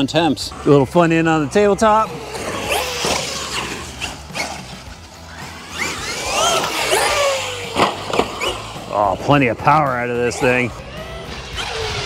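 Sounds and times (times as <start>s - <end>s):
electric motor whining: 0.5s - 12.0s.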